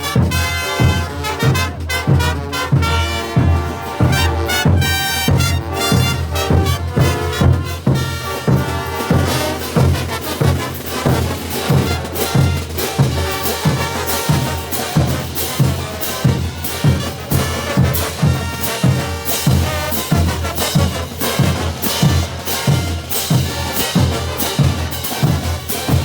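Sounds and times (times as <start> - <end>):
drums beating: 0.0 - 26.0
trumpets and low brass: 0.0 - 26.0.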